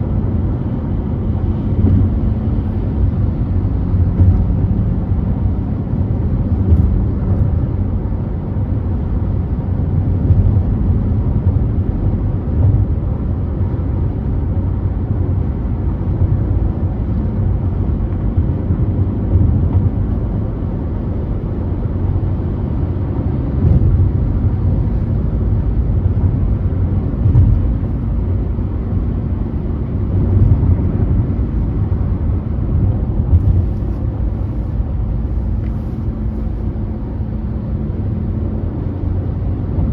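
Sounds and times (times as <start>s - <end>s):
car driving on a freeway: 0.0s - 39.9s.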